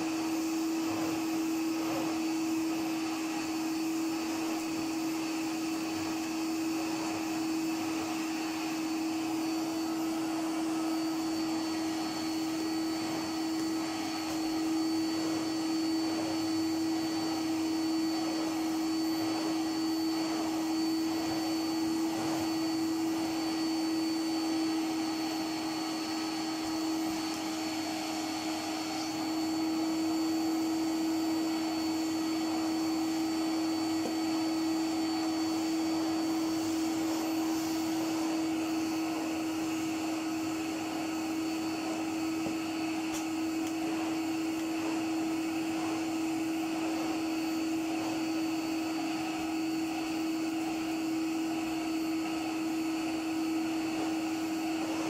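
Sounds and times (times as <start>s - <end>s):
floor tool pushed over carpet: 0.0s - 55.0s
vacuum cleaner whining: 0.0s - 55.0s.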